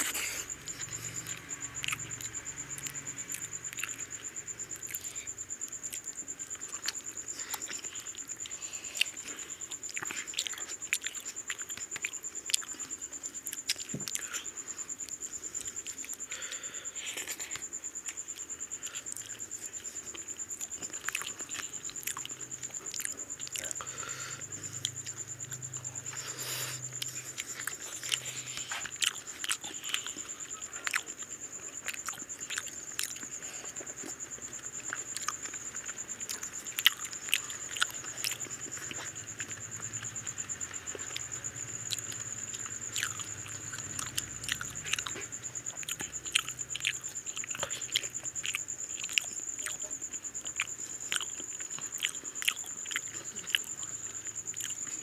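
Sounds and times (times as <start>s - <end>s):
faint low hum: 0.0s - 55.0s
people chewing and eating: 0.0s - 55.0s.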